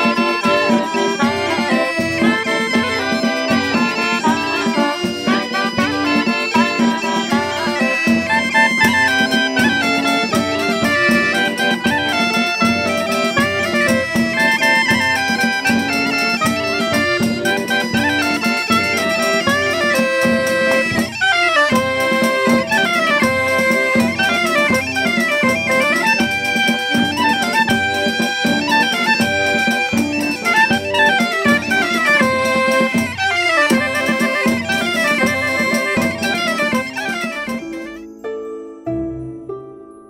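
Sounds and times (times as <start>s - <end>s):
drum beat: 0.0s - 38.0s
quick folk melody: 0.0s - 38.3s.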